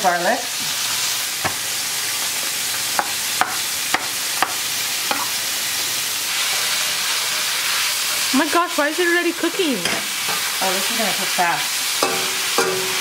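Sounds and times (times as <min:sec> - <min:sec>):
beef sizzling in frying pan: 0:00.0 - 0:13.0.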